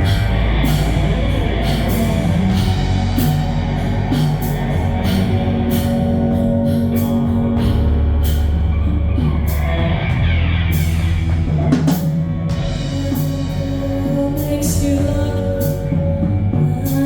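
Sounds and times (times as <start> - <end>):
live rock band playing: 0.0 - 17.0
sustained bass line: 0.0 - 17.0.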